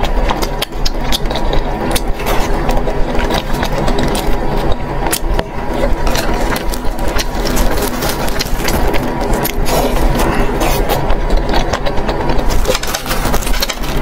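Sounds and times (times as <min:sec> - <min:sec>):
chewing and biting food: 0:00.0 - 0:14.0
steady low hum: 0:00.0 - 0:14.0.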